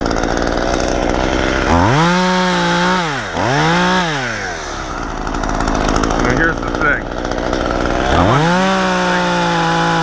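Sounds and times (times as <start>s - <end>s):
chainsaw idling and revving: 0.0s - 10.0s.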